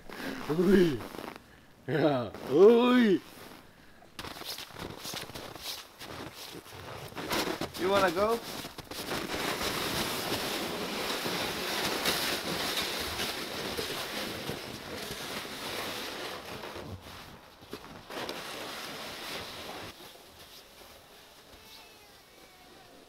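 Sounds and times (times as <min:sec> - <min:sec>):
footsteps crunching in snow: 0:00.0 - 0:01.4, 0:02.1 - 0:22.6
sled scraping through snow: 0:04.2 - 0:23.0.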